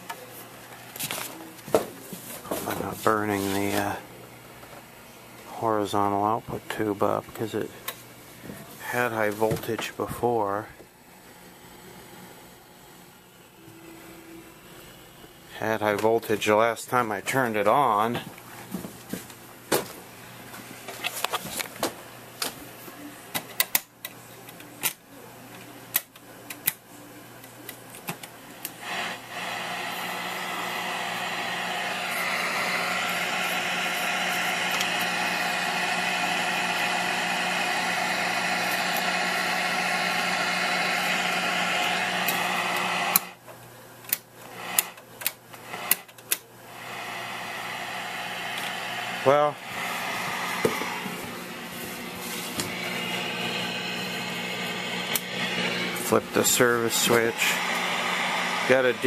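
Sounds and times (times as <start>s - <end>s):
tv static hiss with buzzing hum: 0.0s - 59.0s.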